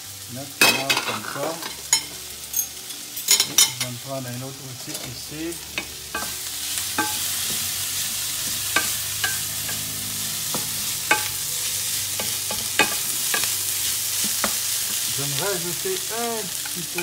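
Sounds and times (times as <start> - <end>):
food sizzling in fat: 0.0 - 17.0.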